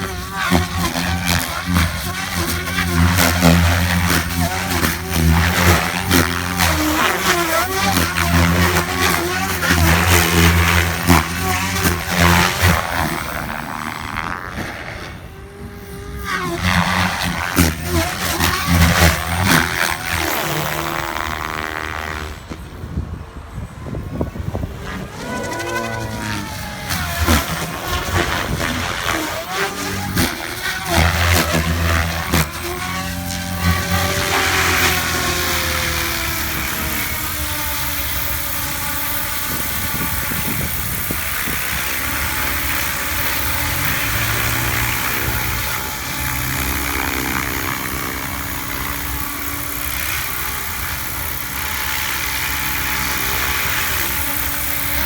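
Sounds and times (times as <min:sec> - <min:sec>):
rc helicopter rotor and motor whine: 0:00.0 - 0:55.0.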